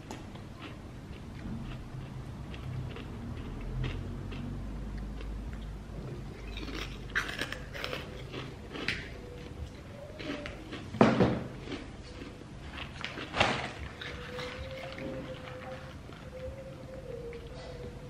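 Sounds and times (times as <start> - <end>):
person chewing: 0.0 - 17.9.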